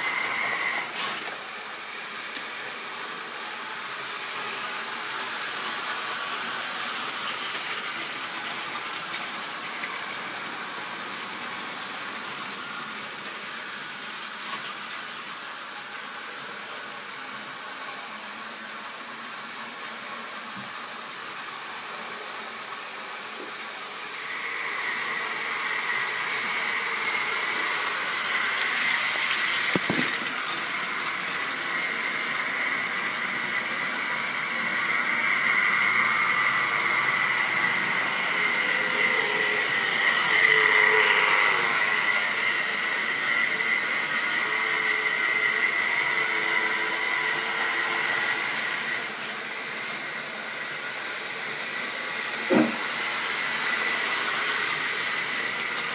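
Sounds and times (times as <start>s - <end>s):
model train motor whine: 0.0s - 55.9s.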